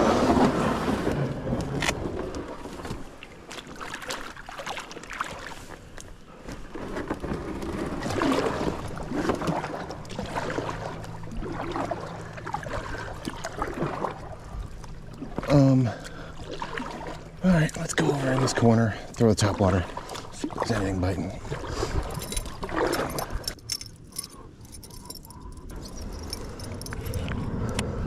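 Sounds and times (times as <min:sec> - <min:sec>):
water lapping against canoe hull: 0:00.0 - 0:27.3.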